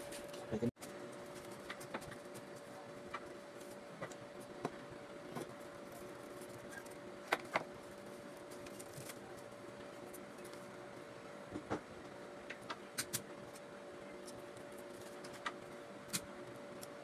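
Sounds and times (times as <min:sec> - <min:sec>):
steady electric hum: 0:00.0 - 0:17.0.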